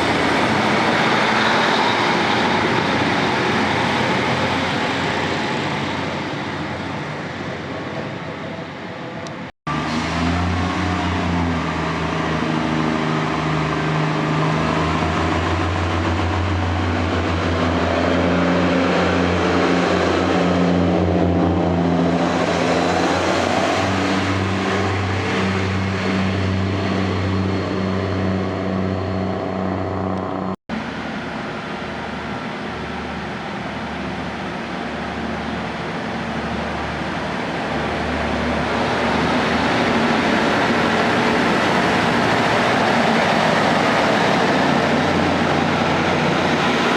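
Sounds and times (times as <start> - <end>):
diesel train engine humming: 0.0 - 46.9.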